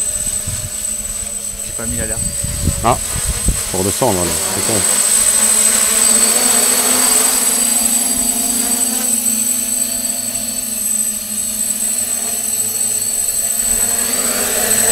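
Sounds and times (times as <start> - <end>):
drone propellers humming: 0.0 - 14.9
high-pitched whine: 0.0 - 14.9.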